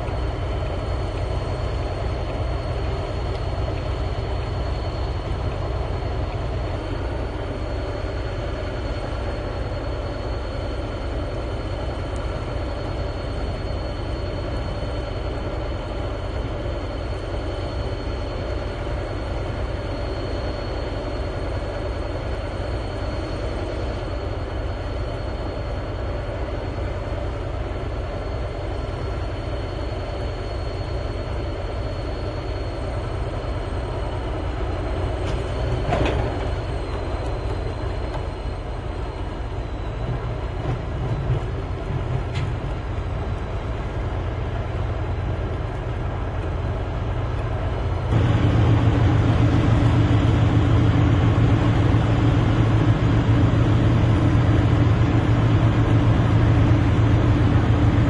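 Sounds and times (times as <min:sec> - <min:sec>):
faint whining tones: 0:00.0 - 0:58.0
machine rumble: 0:00.0 - 0:58.0.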